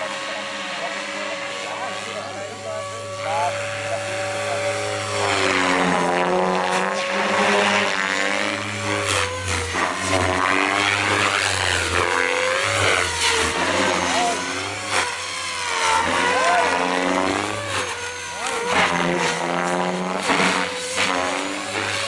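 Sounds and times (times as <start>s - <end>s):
model helicopter rotor whine: 0.0s - 22.0s.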